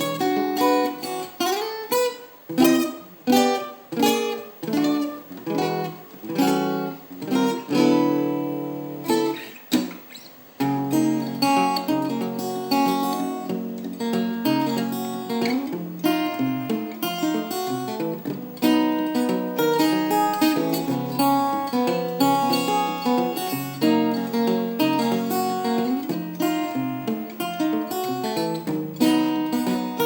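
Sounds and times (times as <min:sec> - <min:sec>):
fingerpicked guitar: 0:00.0 - 0:30.0.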